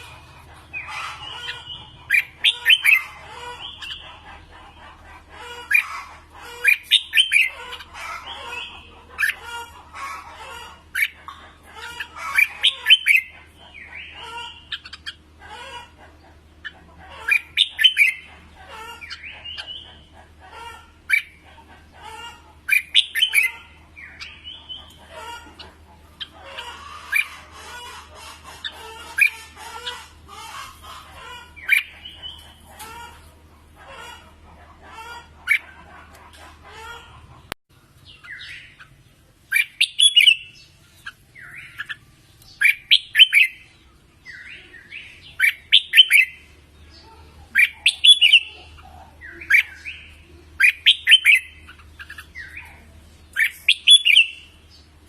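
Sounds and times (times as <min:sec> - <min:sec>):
birds chirping and whistling: 0:00.0 - 0:55.0
low background hum: 0:00.0 - 0:55.0.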